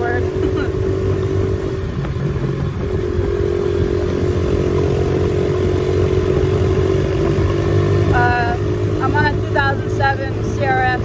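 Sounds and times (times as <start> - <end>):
dirt bike engine running: 0.0 - 11.0
wind noise on microphone: 0.0 - 11.0.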